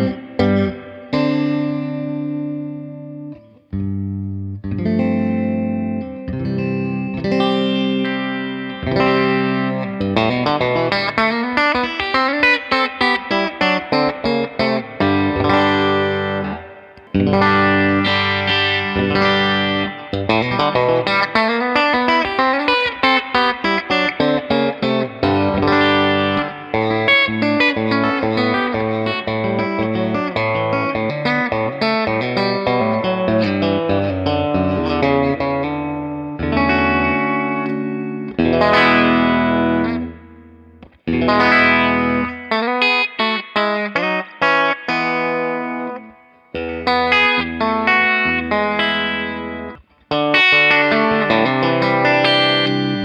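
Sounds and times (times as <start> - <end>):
clean electric guitar: 0.0 - 53.0.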